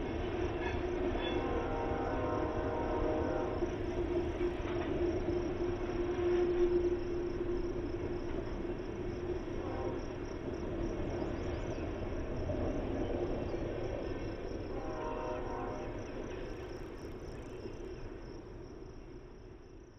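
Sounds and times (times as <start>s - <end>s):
freight train rumble: 0.0s - 19.9s
insects buzzing: 0.0s - 19.9s.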